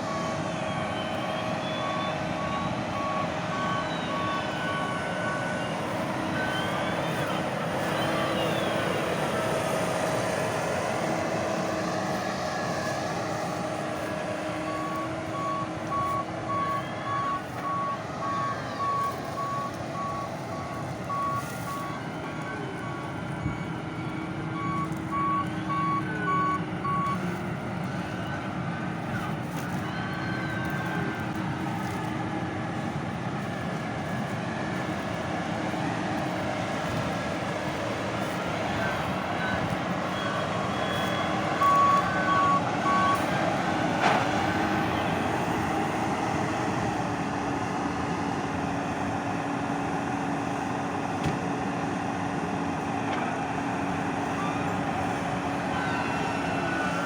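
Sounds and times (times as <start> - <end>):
reversing alarm beeping: 0.0 - 46.0
heavy machinery engine running: 0.0 - 57.0.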